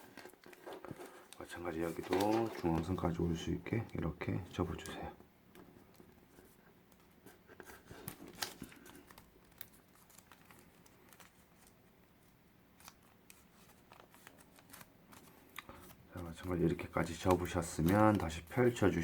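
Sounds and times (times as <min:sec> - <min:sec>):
paper being folded and creased: 0:00.0 - 0:04.0, 0:06.0 - 0:19.0.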